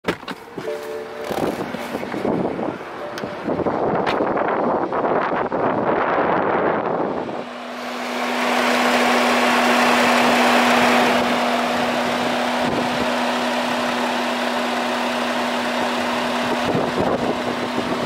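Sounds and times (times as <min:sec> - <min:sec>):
radiator cooling fan running: 0:01.0 - 0:18.0.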